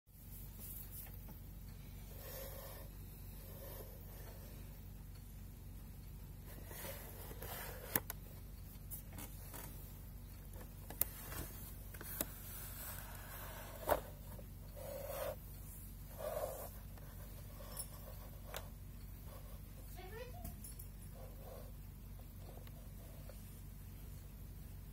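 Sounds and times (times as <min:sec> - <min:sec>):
faint steady hum: 0:00.1 - 0:24.9.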